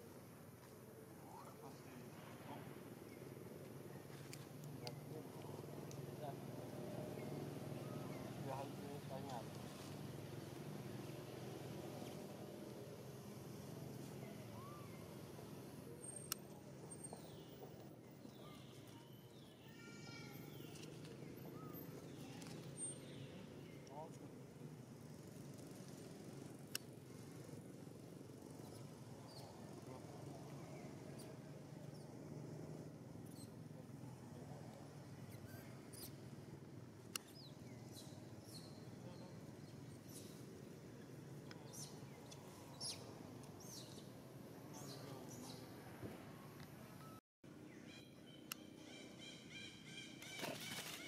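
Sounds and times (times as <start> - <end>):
low background noise: 0.0 - 51.0.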